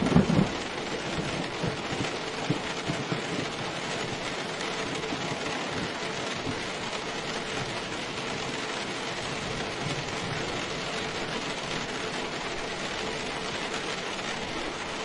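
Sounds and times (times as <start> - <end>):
steady rain patter: 0.0 - 15.0.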